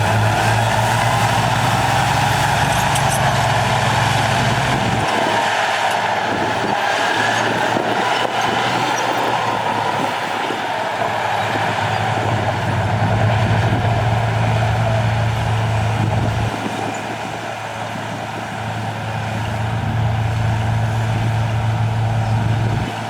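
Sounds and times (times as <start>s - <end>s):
heavy diesel engine working: 0.0s - 23.0s.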